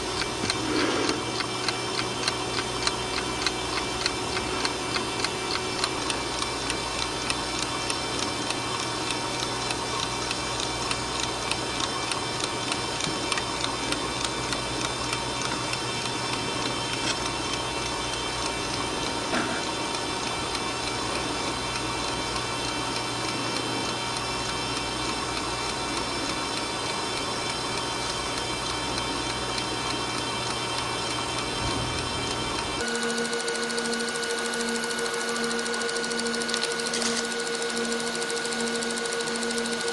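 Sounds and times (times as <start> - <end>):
alarm clock ticking: 0.0 - 39.9
mechanical buzz: 0.0 - 39.9.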